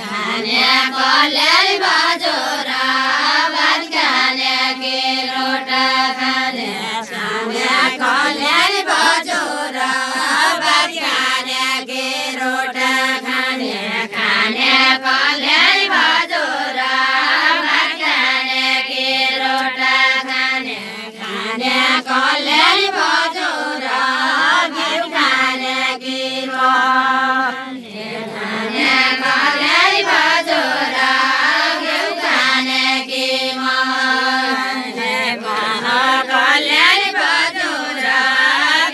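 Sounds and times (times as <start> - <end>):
women singing together: 0.0 - 38.9.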